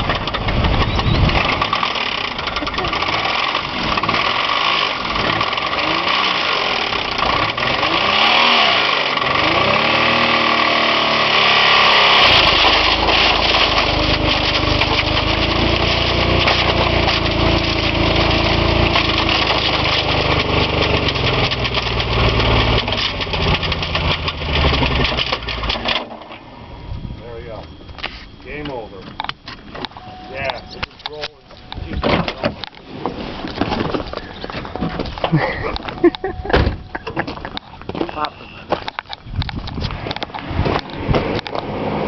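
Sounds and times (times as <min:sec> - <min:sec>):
car engine revving with clatter: 0:00.0 - 0:26.8, 0:27.6 - 0:42.0.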